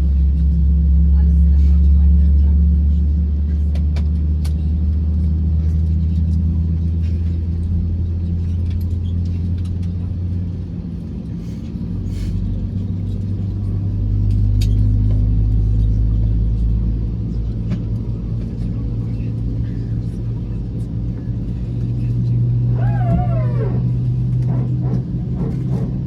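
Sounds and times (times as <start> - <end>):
airliner engine drone: 0.0 - 26.0.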